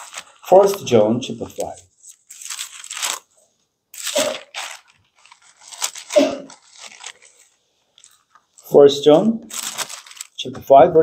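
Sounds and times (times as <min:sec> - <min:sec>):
thin pages rustling: 0:00.0 - 0:03.3, 0:04.0 - 0:08.7, 0:09.5 - 0:10.4.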